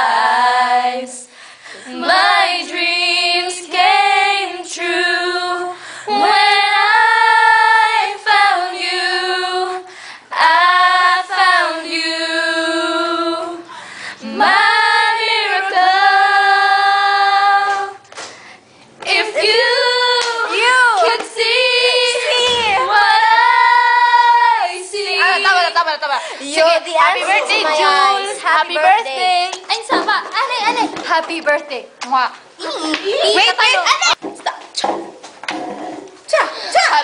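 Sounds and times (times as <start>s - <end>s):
girls singing without accompaniment: 0.0s - 29.7s.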